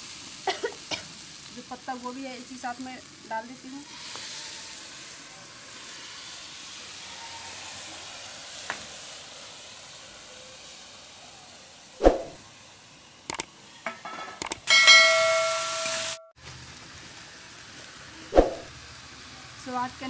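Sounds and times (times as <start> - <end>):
cabbage sizzling in hot oil: 0.0 - 13.8, 15.3 - 20.0.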